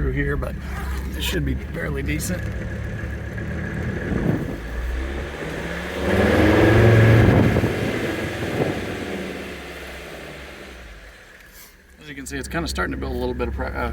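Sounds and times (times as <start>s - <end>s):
diesel engine from inside cab: 0.0s - 13.9s.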